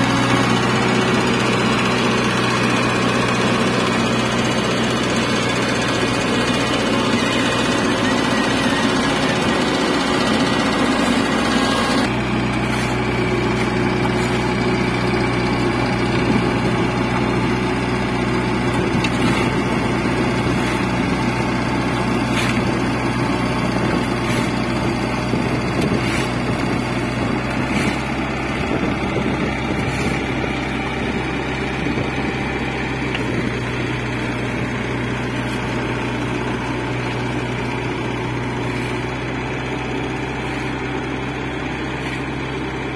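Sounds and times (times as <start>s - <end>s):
paver engine running: 0.0s - 42.9s.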